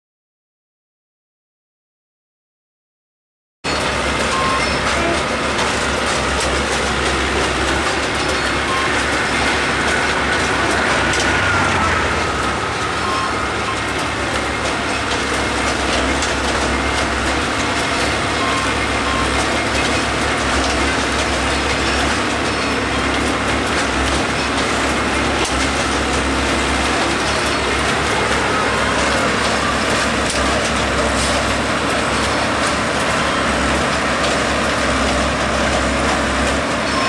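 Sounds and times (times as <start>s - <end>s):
rail machine engine running: 3.7s - 37.0s.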